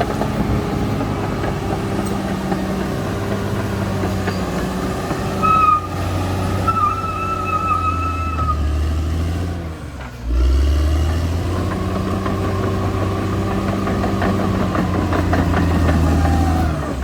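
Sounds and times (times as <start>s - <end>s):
steel tracks clanking: 0.0s - 9.0s, 9.9s - 17.0s
bulldozer diesel engine running: 0.0s - 17.0s.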